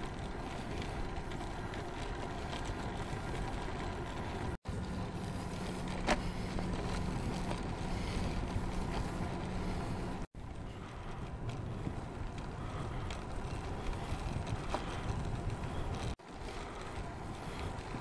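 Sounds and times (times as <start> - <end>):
bicycle rolling on asphalt: 0.0 - 18.0.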